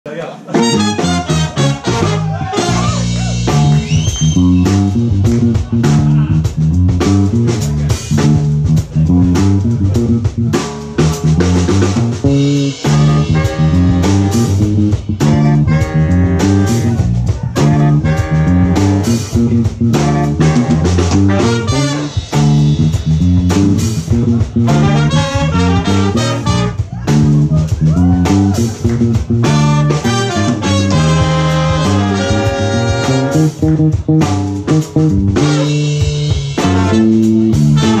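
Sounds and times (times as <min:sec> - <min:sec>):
drum kit: 0:00.4 - 0:38.0
punchy bass line: 0:00.5 - 0:38.0
saxophones and trumpet riffs: 0:00.5 - 0:38.0.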